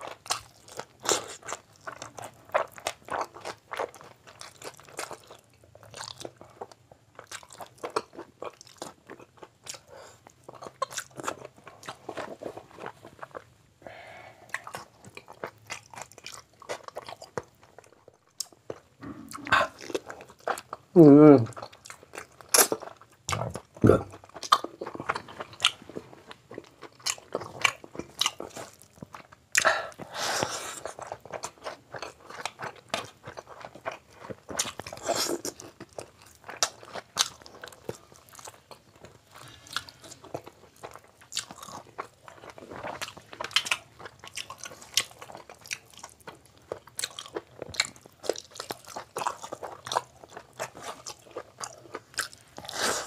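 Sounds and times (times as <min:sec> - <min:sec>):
chewing with wet smacking: 0:00.0 - 0:13.6, 0:14.5 - 0:20.9, 0:21.5 - 0:52.8.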